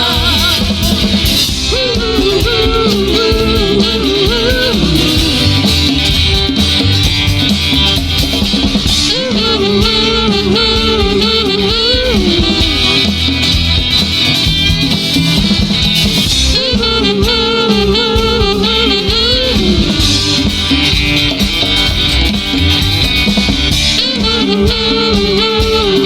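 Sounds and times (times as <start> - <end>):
bass guitar: 0.0 - 26.0
drums: 0.0 - 26.0
lead guitar bending notes: 0.0 - 26.0.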